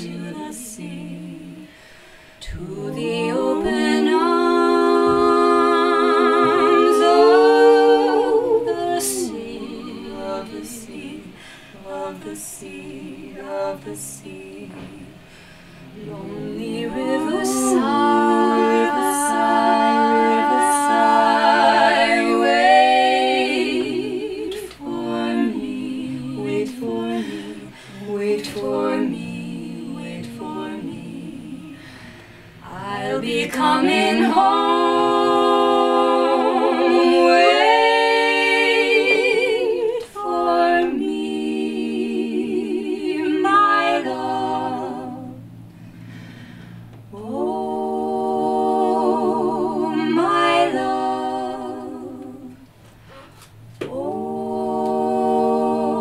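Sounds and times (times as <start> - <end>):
women singing a cappella harmony: 0.0 - 56.0.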